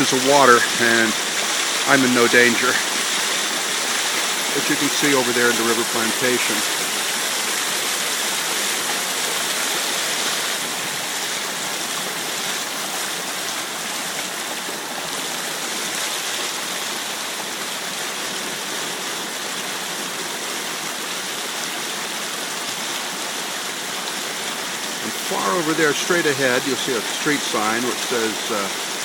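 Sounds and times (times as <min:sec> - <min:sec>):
rushing creek water: 0:00.0 - 0:29.0.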